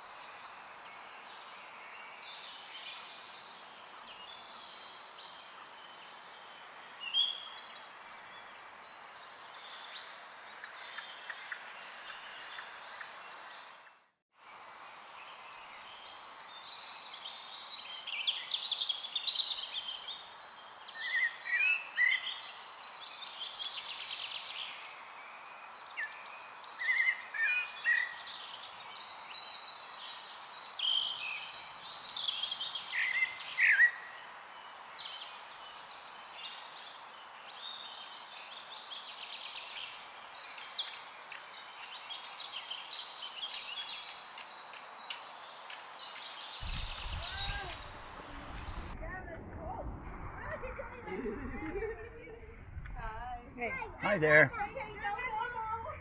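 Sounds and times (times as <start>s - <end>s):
songbirds chirping: 0.0s - 56.0s
steady outdoor hiss: 0.0s - 56.0s.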